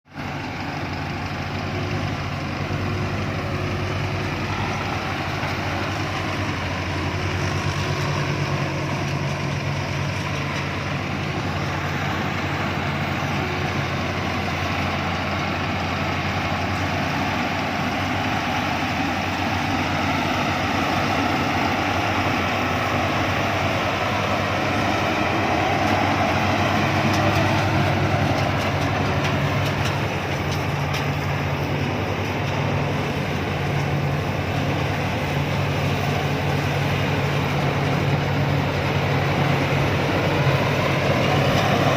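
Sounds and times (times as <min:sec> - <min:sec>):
combine harvester running: 0:00.1 - 0:41.9.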